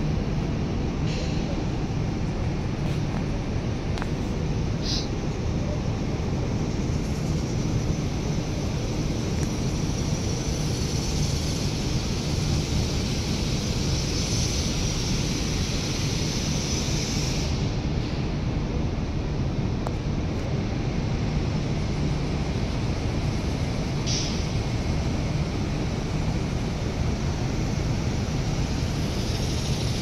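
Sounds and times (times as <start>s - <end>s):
hiss: 0.0s - 18.6s, 20.3s - 30.0s.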